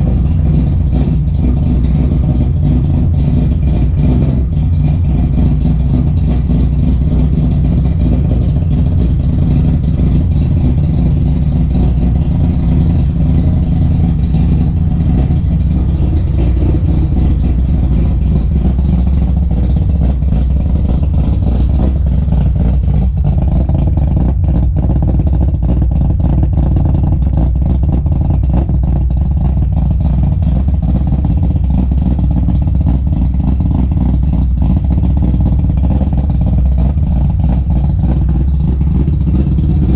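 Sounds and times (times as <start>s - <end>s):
rotary engine idling: 0.0s - 39.9s.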